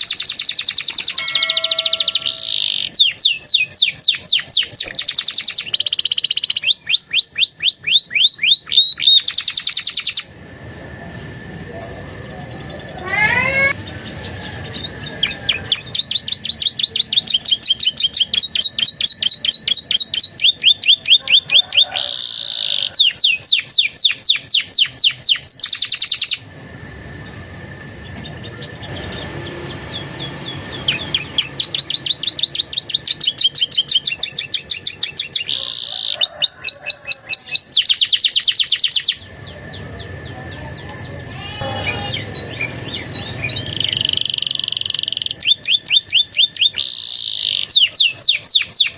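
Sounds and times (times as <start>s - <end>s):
canary trilling: 0.0s - 10.3s, 12.8s - 26.4s, 28.4s - 40.3s, 41.0s - 48.9s.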